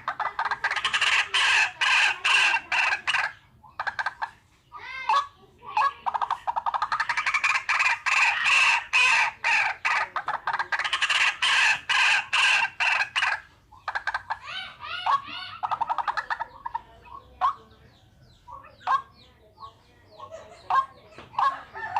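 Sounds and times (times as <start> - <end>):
waterhen calling: 0.0 - 17.9.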